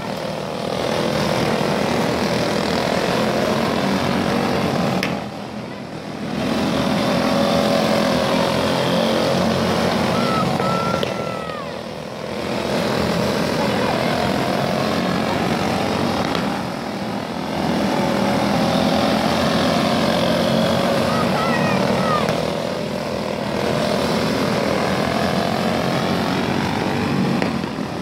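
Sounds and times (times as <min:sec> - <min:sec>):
kart engines buzzing: 0:00.0 - 0:28.0.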